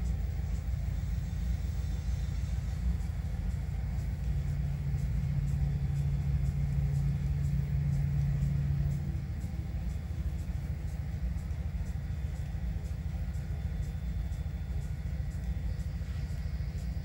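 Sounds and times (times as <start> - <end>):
diesel locomotive rumble: 0.0 - 17.0
steady low hum: 0.0 - 17.0.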